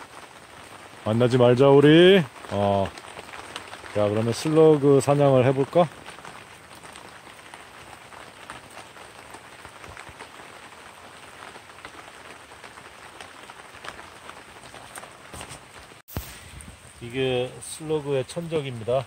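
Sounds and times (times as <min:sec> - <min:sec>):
light rain patter: 0:00.0 - 0:19.0.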